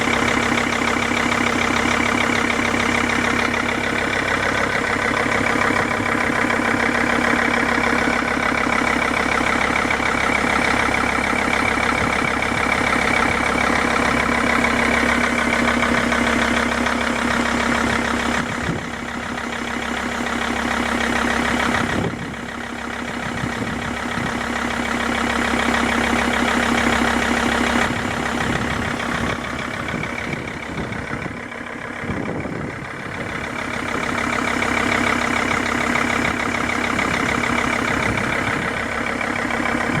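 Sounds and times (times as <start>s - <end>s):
car engine idling: 0.0s - 40.0s
rapid engine knocking: 0.0s - 40.0s.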